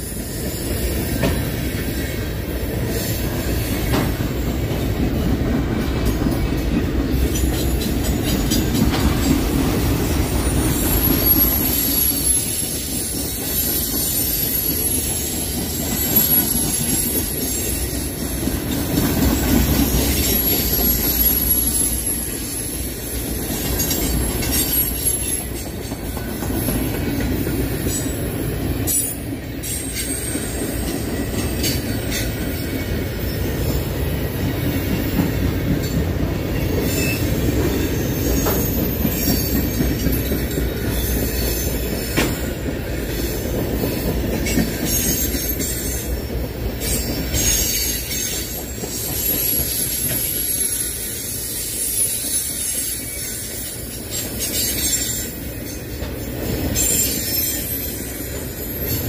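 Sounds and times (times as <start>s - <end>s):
steel wheels rumbling on rail: 0.0s - 59.0s
wheels clicking over rail joints: 2.8s - 59.0s.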